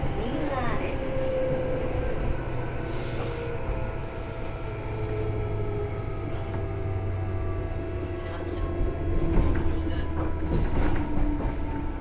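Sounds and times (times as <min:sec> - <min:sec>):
electric train running rumble: 0:00.0 - 0:12.0.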